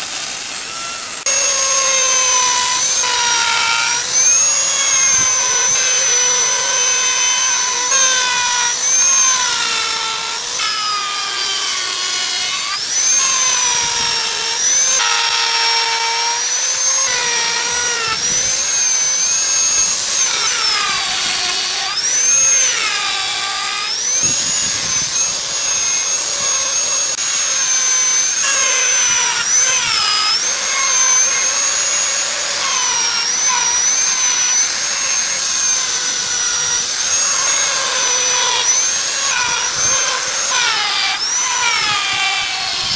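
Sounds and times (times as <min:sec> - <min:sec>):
power carving chisel motor whine: 0:00.0 - 0:42.9.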